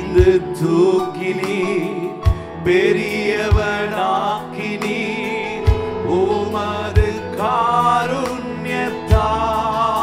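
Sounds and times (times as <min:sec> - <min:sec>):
sustained instrumental accompaniment: 0:00.0 - 0:10.0.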